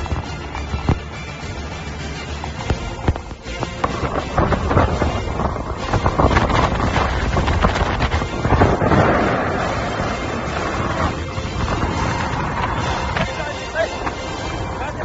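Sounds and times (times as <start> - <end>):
wind buffeting microphone: 2.3 - 15.0.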